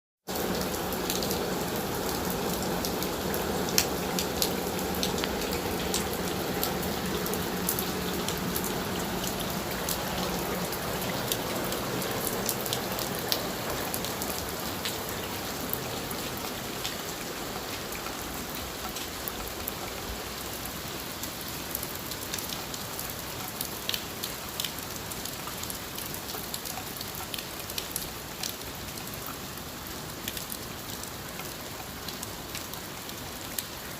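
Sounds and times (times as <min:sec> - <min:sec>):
rain falling steadily: 0:00.2 - 0:33.9
raindrops ticking: 0:00.3 - 0:29.4.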